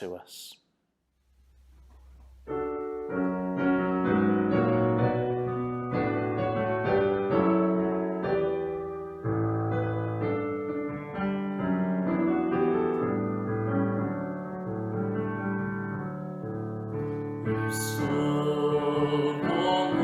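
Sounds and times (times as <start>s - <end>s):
piano chords: 1.8s - 20.0s.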